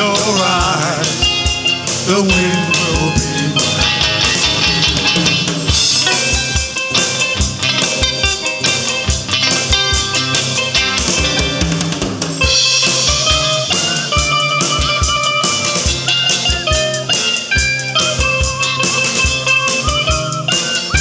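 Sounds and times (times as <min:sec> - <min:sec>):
cigar box guitar: 0:00.0 - 0:21.0
drum kit kick-drum beat: 0:00.0 - 0:21.0
plucked guitar: 0:00.0 - 0:21.0
wavering lead melody: 0:00.0 - 0:21.0.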